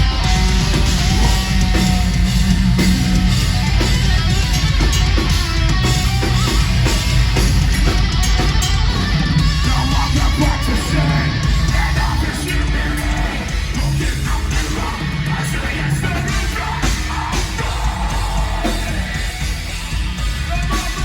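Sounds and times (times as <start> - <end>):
heavy metal band playing: 0.0 - 21.0.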